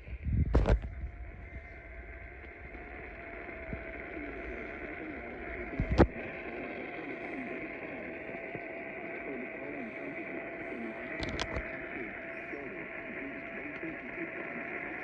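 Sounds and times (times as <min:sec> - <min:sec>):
radio static hiss: 0:00.0 - 0:15.0
thin hum tone: 0:00.0 - 0:15.0.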